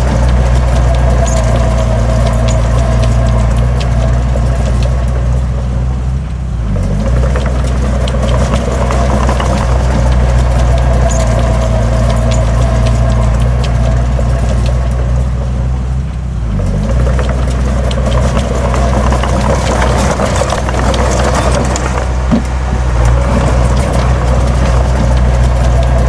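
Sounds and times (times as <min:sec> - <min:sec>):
metal scraping and clanking: 0:00.0 - 0:06.0, 0:06.7 - 0:26.0
heavy diesel engine running: 0:00.0 - 0:26.0.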